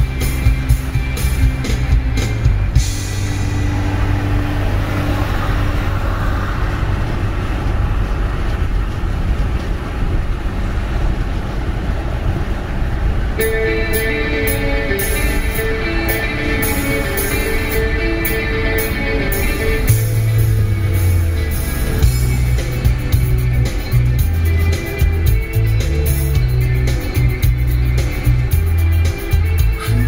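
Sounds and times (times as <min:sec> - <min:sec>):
background music: 0:00.0 - 0:07.6, 0:13.4 - 0:30.0
car road and engine noise: 0:00.0 - 0:30.0.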